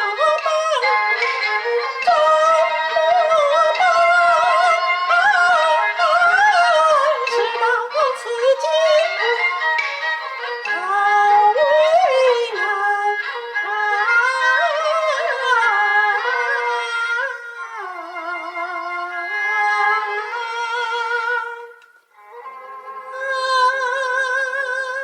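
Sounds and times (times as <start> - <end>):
high voice singing opera: 0.0 - 9.6, 10.6 - 21.9
instrumental accompaniment: 0.0 - 25.0.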